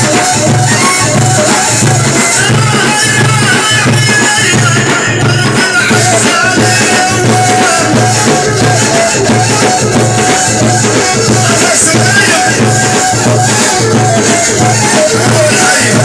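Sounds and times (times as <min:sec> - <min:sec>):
cane flute melody: 0:00.0 - 0:16.0
low drum beat: 0:00.0 - 0:16.0
rattling percussion: 0:00.0 - 0:16.0.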